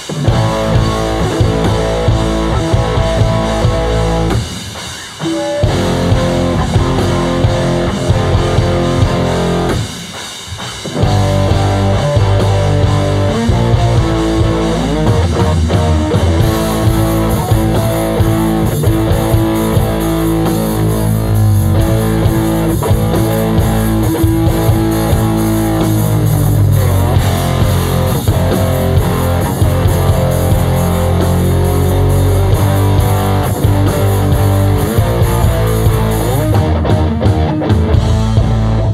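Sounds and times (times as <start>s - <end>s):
bass guitar: 0.0s - 38.9s
drums: 0.0s - 38.9s
electric guitar: 0.0s - 38.9s.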